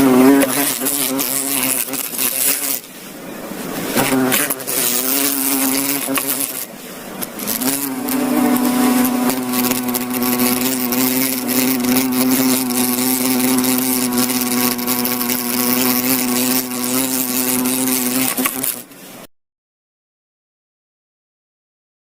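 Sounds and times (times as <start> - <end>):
insect wings buzzing: 0.0 - 2.9, 3.7 - 18.9.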